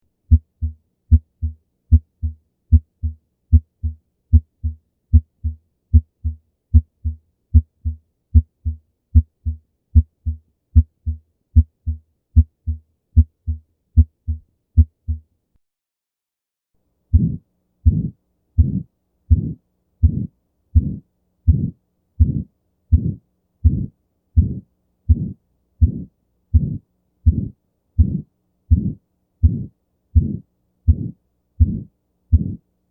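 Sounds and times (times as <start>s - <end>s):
heart murmur: 0.3s - 15.2s, 17.1s - 32.6s
heartbeat through a stethoscope: 0.3s - 15.3s, 17.1s - 32.7s.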